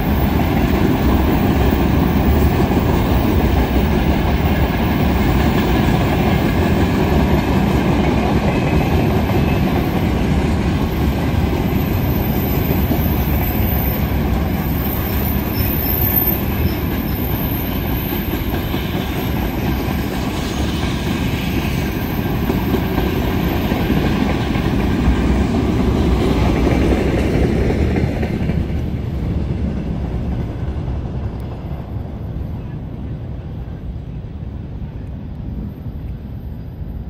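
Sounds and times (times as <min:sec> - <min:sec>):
freight train wheels rumbling: 0:00.0 - 0:37.0.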